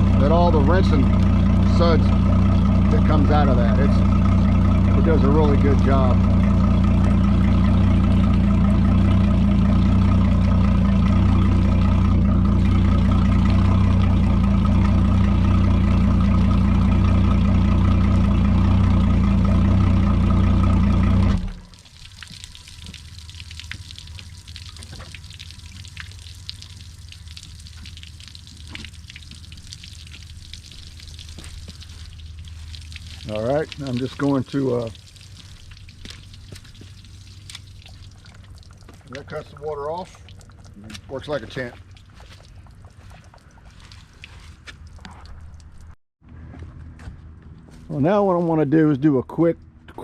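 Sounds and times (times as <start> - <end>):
hose water spattering: 0.0 - 46.0
outboard motor idling: 0.0 - 46.6.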